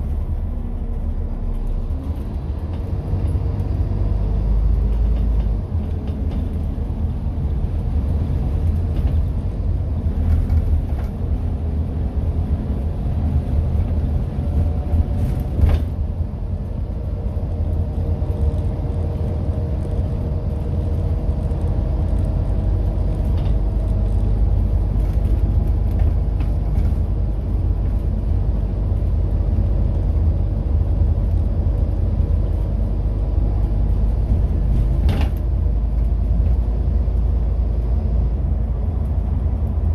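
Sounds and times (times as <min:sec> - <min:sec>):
bus engine rumble: 0:00.0 - 0:39.9.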